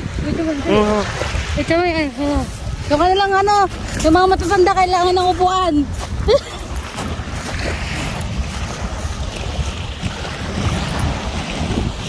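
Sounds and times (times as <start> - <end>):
small waves on shell beach: 0.0 - 12.0
wind buffeting microphone: 0.0 - 12.0.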